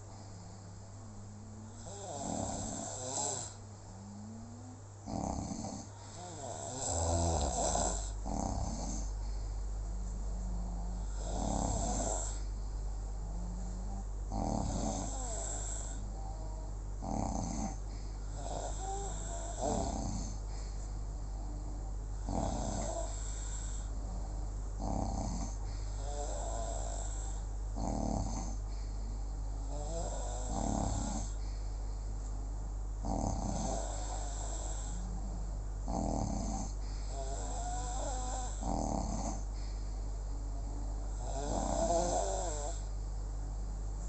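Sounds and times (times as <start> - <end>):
constant low hum: 0.0 - 44.0
person snoring: 1.5 - 12.5, 13.2 - 29.0, 29.6 - 31.4, 33.0 - 39.8, 40.5 - 42.9.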